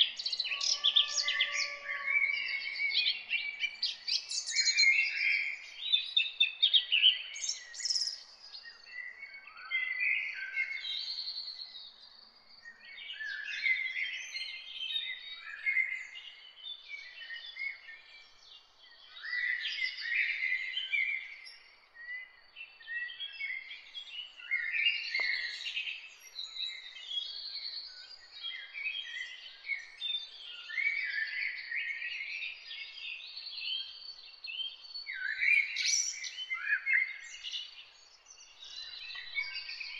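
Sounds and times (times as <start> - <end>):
small birds chirping: 2.6 - 39.9.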